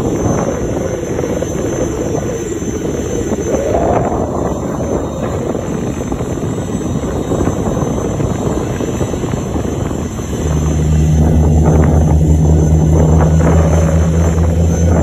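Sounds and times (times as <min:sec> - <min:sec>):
jet engines rumbling: 0:00.0 - 0:15.0
steady low hum: 0:00.0 - 0:15.0.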